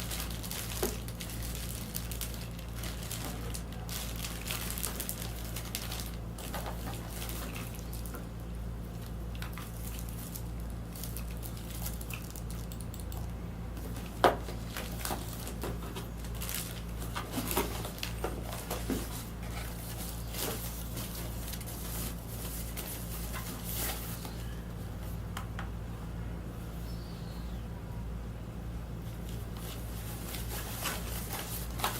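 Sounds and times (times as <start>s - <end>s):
hands handling packaging: 0.0s - 12.8s, 13.8s - 24.5s, 29.2s - 31.9s
steady low hum: 0.0s - 31.9s.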